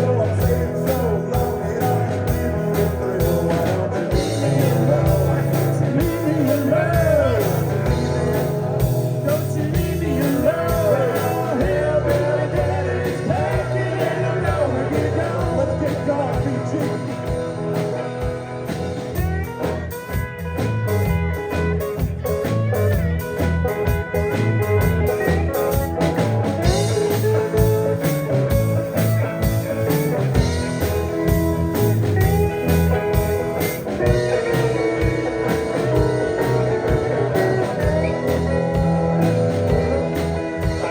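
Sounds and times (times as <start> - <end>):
blues-rock band playing: 0.0 - 40.9
electric guitar lead bending notes: 0.0 - 40.9.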